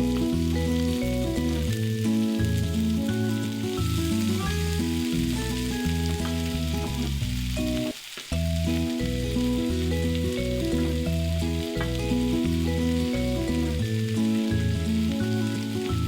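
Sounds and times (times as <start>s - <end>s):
background music: 0.0s - 16.0s
food sizzling in a pan: 0.0s - 16.0s.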